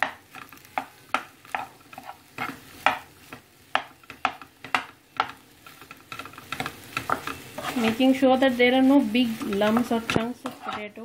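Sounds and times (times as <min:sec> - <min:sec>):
oil sizzling: 0:00.0 - 0:11.0
spatula scraping a pan: 0:00.0 - 0:11.0.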